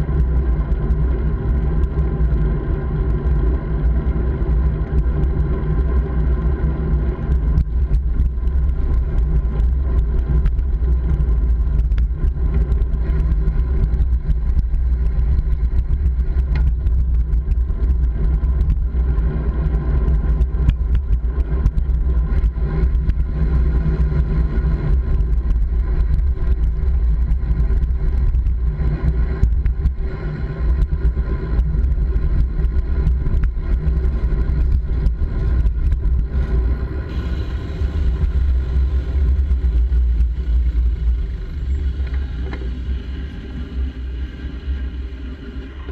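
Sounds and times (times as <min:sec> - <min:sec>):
vehicle noise: 0:00.0 - 0:45.9
wind and road noise rumble: 0:00.0 - 0:45.9.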